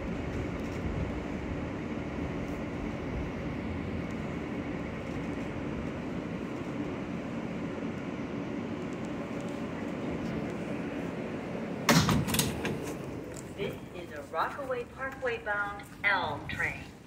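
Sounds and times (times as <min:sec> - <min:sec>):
subway car wheels rumbling on rail: 0:00.0 - 0:16.8.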